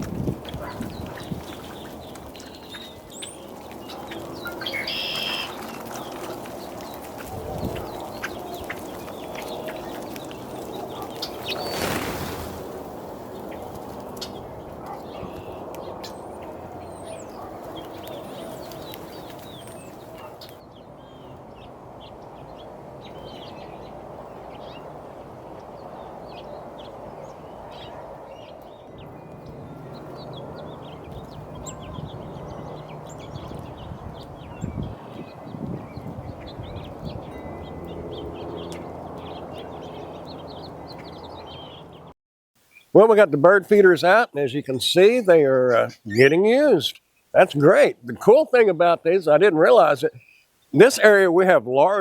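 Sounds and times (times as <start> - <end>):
outdoor background noise: 0.0 - 52.0
small birds chirping: 0.0 - 52.0.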